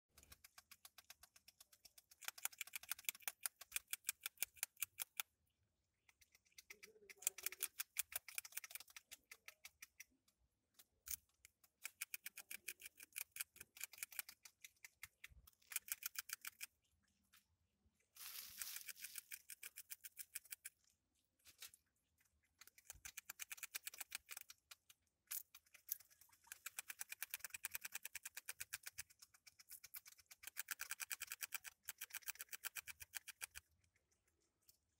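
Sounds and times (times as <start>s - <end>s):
rodent chewing food: 0.1s - 5.4s, 6.0s - 16.9s, 18.2s - 34.9s.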